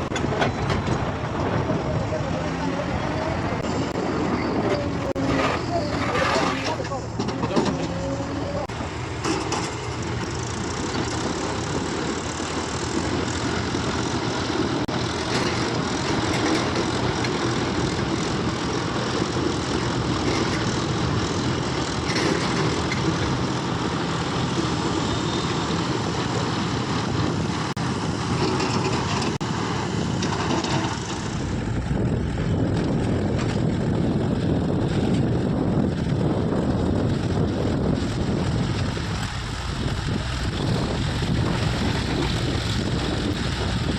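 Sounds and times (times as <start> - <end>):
diesel engine of heavy machinery: 0.0 - 43.9.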